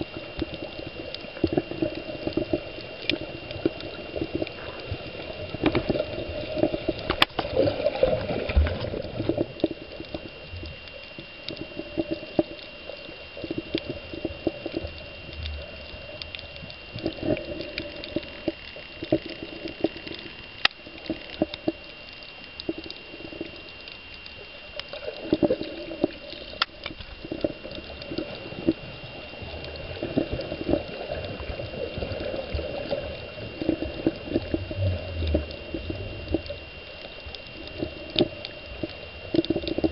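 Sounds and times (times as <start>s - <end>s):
sharp underwater clicks: 0.0s - 39.9s
water sloshing and bubbling: 0.0s - 39.9s.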